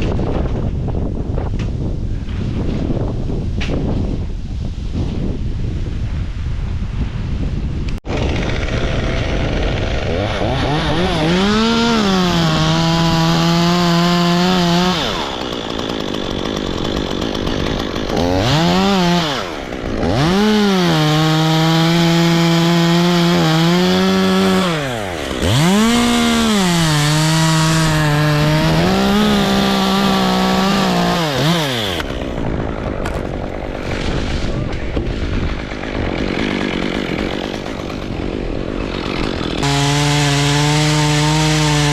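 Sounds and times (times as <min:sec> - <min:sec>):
chainsaw cutting wood: 0:08.0 - 0:41.9.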